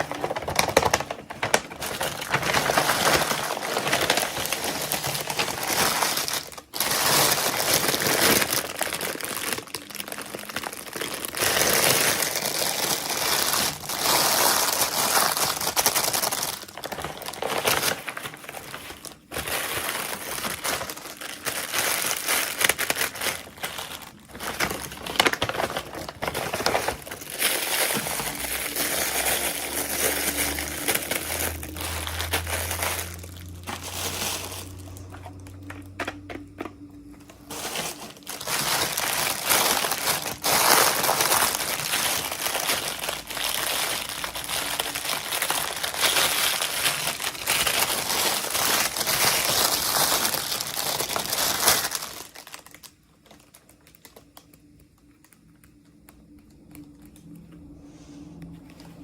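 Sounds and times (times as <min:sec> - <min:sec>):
packaging crinkling: 0:00.0 - 0:57.8.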